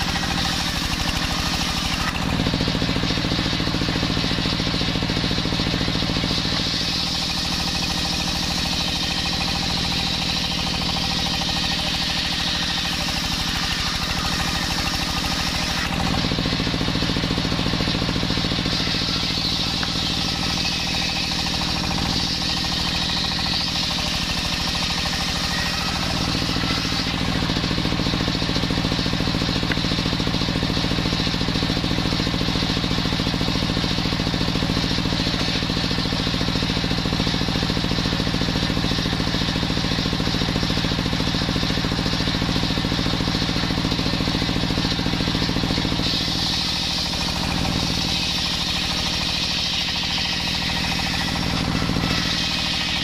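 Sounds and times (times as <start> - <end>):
circular saw ripping wood: 0.0 - 53.0.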